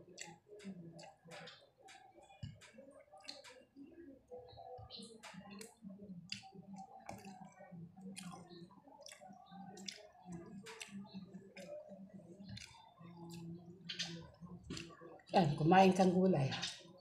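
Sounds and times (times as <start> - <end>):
wet squelches of eating: 0.0 - 17.0.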